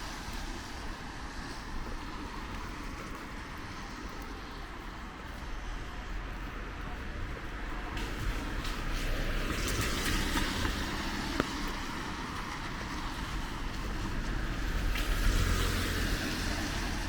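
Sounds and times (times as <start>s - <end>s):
tyres hissing on wet road: 0.0s - 17.0s.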